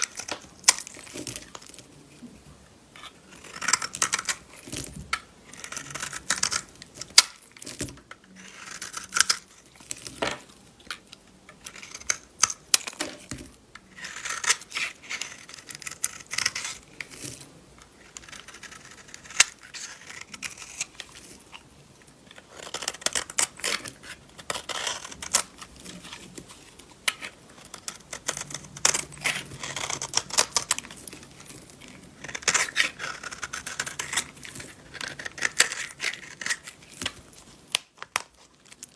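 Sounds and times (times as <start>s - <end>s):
knife scraping dry soap: 3.0s - 10.2s, 11.5s - 12.7s, 13.8s - 21.6s, 22.3s - 38.9s.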